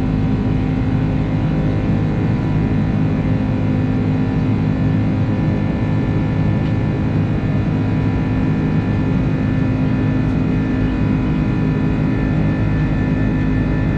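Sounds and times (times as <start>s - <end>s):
jet engine drone in cabin: 0.0s - 13.9s.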